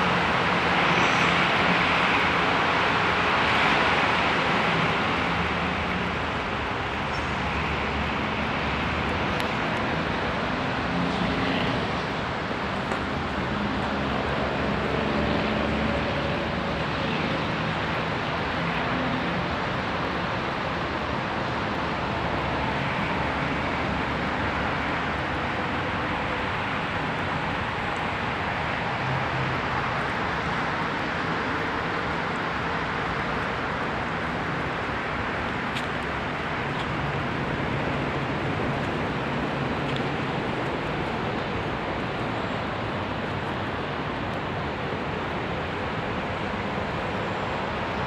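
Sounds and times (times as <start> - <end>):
distant traffic: 0.0 - 48.0.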